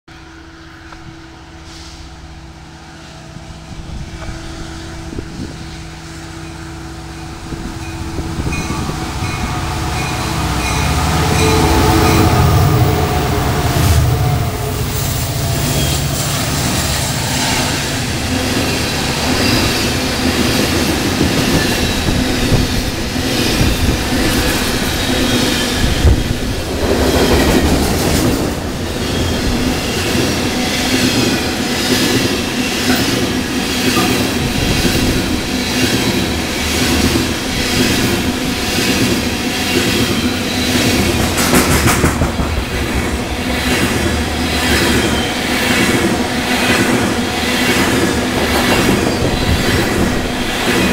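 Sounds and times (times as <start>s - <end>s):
freight train wheels clacking: 4.1s - 50.9s.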